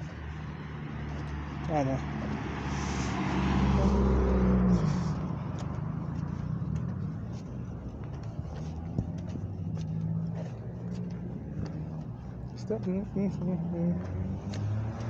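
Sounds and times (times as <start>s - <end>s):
steady traffic noise: 0.0s - 15.0s
car driving past: 0.7s - 15.0s.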